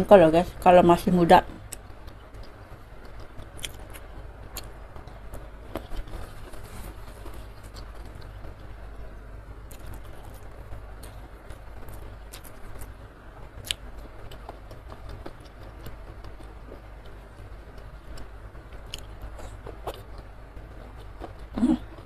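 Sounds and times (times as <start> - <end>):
steady low hum: 0.0 - 22.0
wet chewing and mouth clicks: 1.6 - 8.7, 9.7 - 13.0, 13.6 - 22.0.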